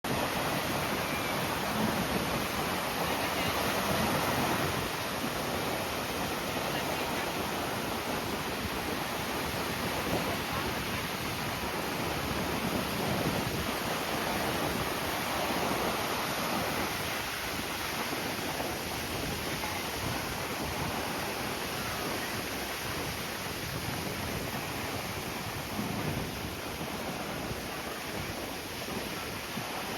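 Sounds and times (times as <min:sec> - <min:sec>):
sea surf washing: 0:00.0 - 0:29.9
strong wind: 0:00.0 - 0:29.9.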